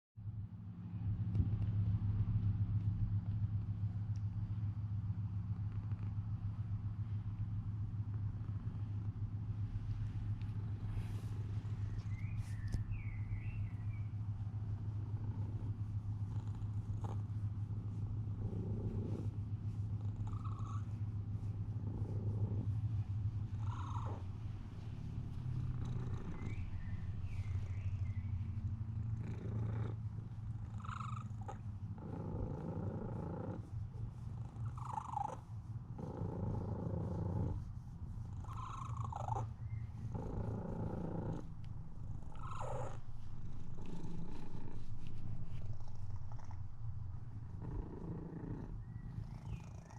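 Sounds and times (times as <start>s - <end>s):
cat purring: 3.2s - 49.9s.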